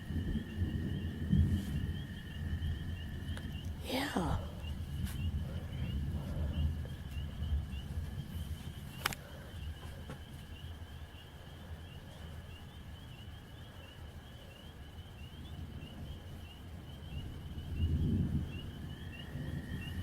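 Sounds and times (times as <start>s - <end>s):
rolling thunder: 0.0s - 11.2s, 14.9s - 20.0s
insects chirping: 0.0s - 20.0s.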